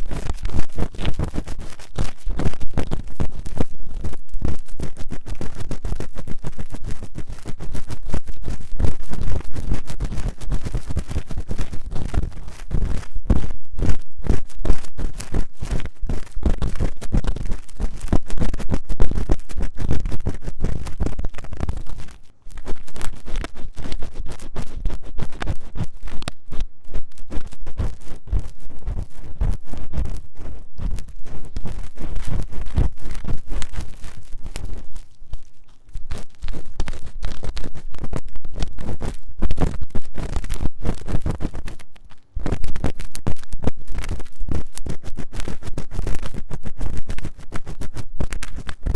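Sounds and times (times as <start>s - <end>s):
scratching inside microphone ear: 0.0s - 48.9s.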